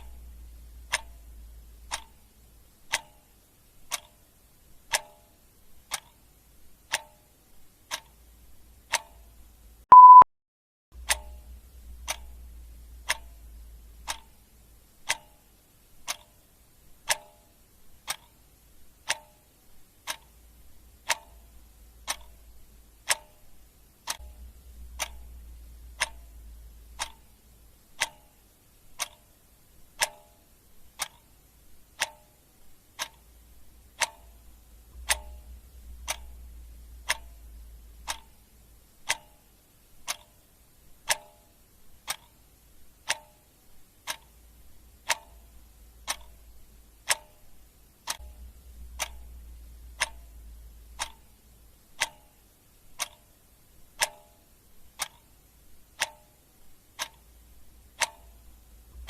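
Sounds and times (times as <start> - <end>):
clock ticking: 0.0 - 10.2, 11.0 - 59.0
faint low hum: 0.0 - 10.2, 11.0 - 59.0.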